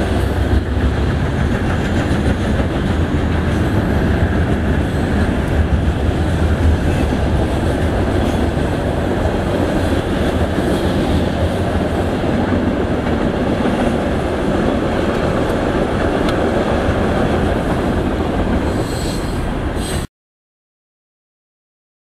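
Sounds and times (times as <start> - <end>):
train rumbling on rails: 0.0 - 20.1.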